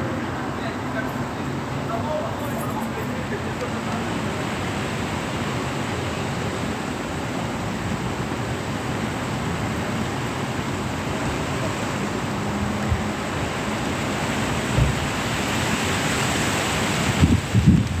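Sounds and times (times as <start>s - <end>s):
light rain falling: 0.0s - 18.0s.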